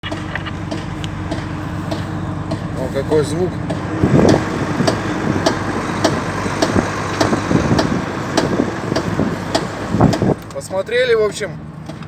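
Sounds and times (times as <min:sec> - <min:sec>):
sharp clicking from truck wheels: 0:00.0 - 0:12.0
truck engine running: 0:00.0 - 0:12.0.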